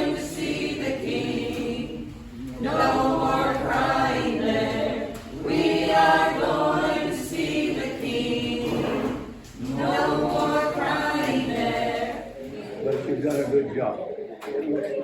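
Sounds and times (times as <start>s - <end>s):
choir singing: 0.0s - 12.8s.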